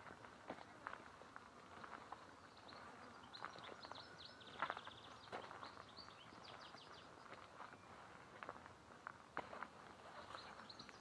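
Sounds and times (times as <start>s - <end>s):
footsteps on dirt path: 0.0s - 11.0s
small birds chirping: 0.7s - 8.6s, 9.5s - 11.0s.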